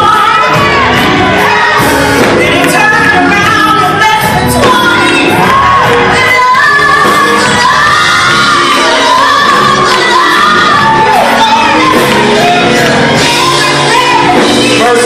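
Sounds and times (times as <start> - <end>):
instrumental accompaniment: 0.0 - 15.0
voices singing worship song: 0.0 - 15.0.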